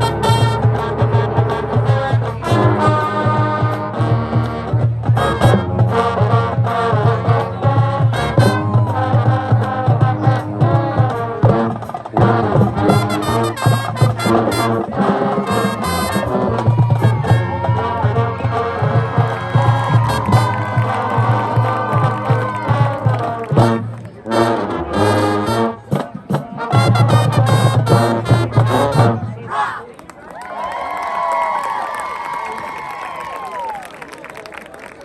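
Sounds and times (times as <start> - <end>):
drumline beat: 0.0 - 24.3, 24.9 - 29.4
brass horns playing tune: 0.0 - 29.5.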